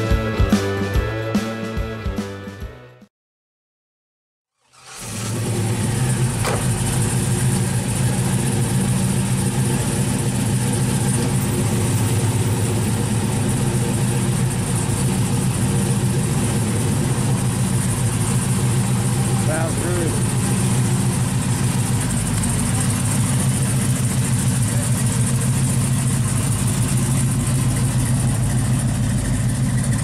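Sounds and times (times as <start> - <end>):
car engine idling: 4.7 - 30.0.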